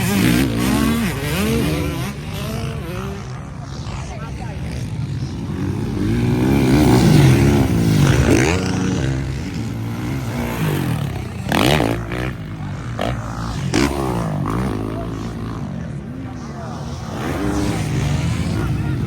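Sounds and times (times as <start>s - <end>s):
motocross bikes racing past: 0.0s - 19.0s.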